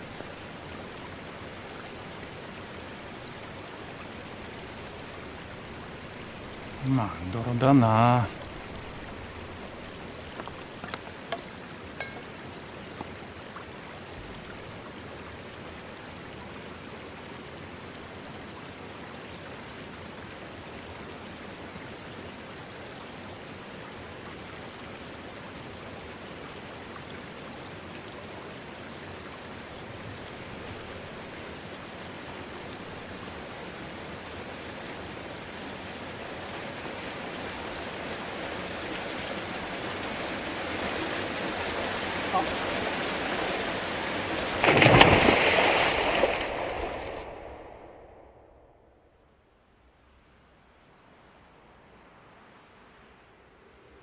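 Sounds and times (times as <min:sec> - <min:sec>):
river water rushing: 0:00.0 - 0:47.8.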